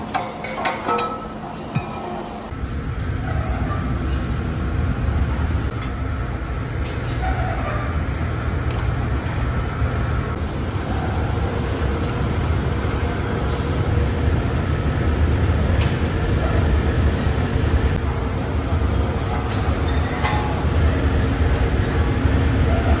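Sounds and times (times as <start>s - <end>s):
heavy machinery rumbling: 0.0s - 23.0s.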